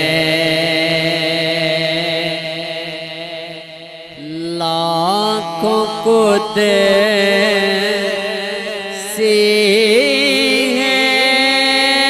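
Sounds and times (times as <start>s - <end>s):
man singing ornamented notes: 0.0s - 12.0s
steady held drone: 0.0s - 12.0s.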